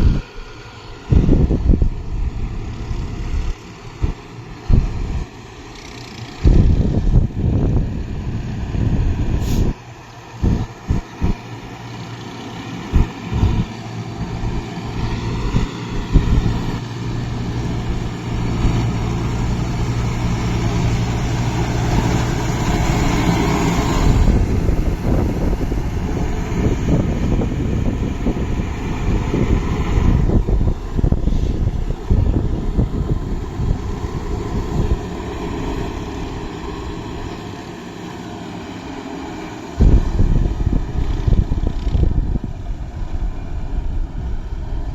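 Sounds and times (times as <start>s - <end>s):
tractor diesel engine under load: 0.0s - 44.9s
wind gusts on microphone: 0.0s - 44.9s.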